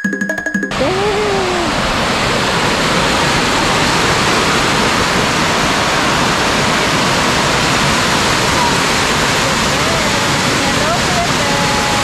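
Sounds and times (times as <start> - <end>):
water rushing over weir: 0.6 - 12.0.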